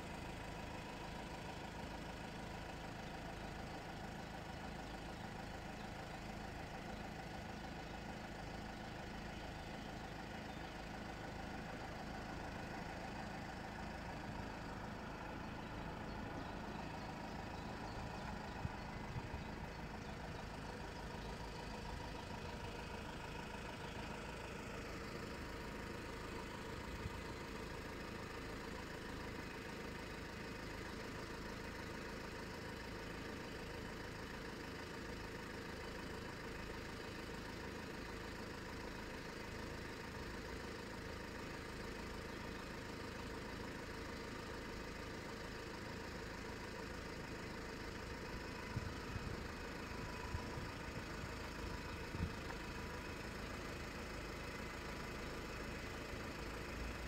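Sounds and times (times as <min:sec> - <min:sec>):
vehicle engines idling: 0:00.0 - 0:57.0.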